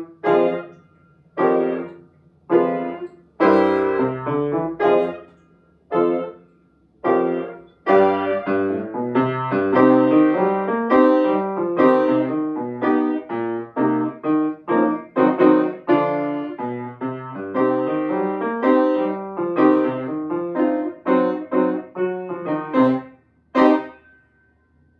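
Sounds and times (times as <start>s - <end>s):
grand piano playing: 0.0s - 24.1s.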